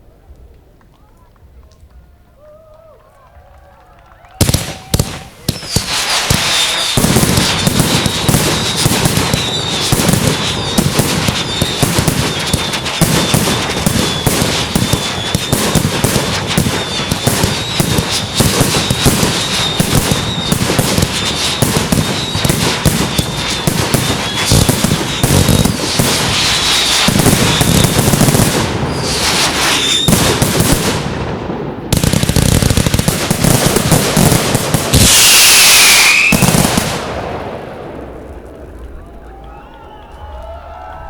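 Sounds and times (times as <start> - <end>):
high whistling fireworks: 3.8 - 41.0
fireworks bangs and crackling: 4.0 - 40.6.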